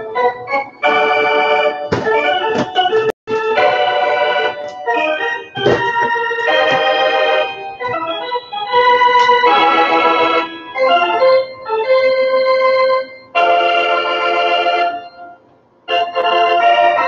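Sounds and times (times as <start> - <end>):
held keyboard chords: 0.0 - 17.0.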